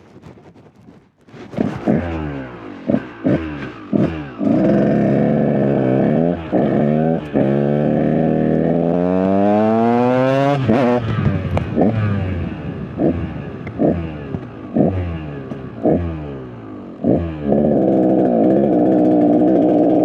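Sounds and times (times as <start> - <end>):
dirt bike engine revving: 1.5 - 20.0.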